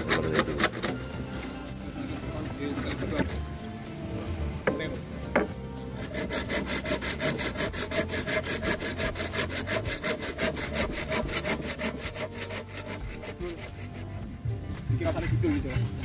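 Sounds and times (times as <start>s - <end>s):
hand saw cutting wood: 0.0s - 16.0s.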